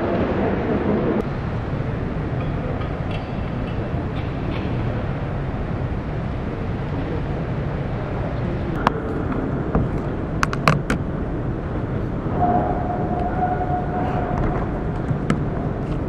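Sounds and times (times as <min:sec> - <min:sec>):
low background rumble: 0:00.0 - 0:16.0
steady tone: 0:00.0 - 0:16.0.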